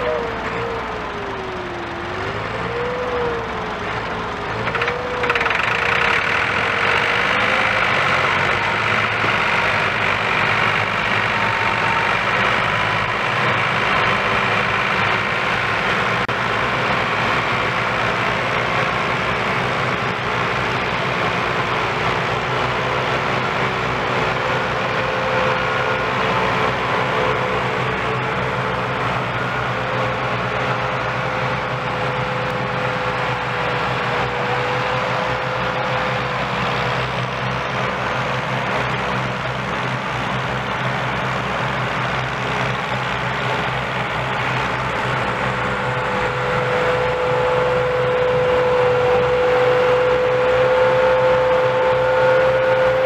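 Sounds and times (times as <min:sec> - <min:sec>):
tractor diesel engines under load: 0:00.0 - 0:53.0.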